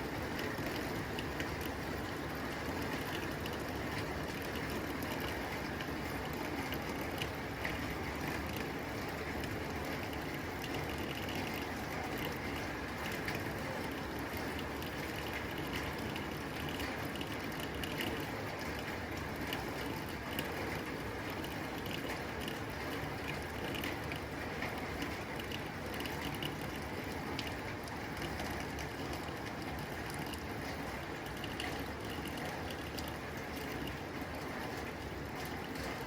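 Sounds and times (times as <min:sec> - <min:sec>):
rain on a tin roof: 0:00.0 - 0:36.0.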